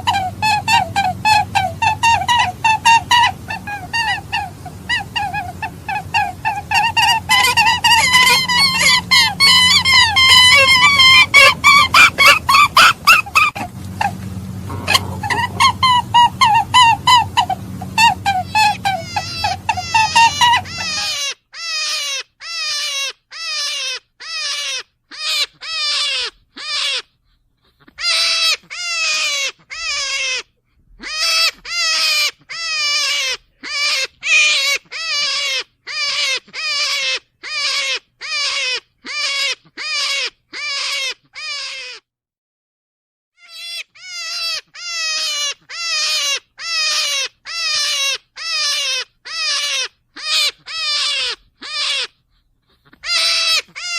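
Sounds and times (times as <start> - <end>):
short animal calls: 0.0 - 27.1, 27.7 - 42.1, 43.4 - 53.9.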